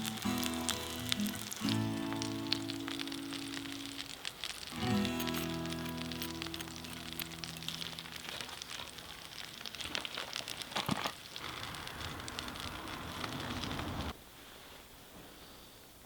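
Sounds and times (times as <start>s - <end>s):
wood fire crackling: 0.0s - 14.6s.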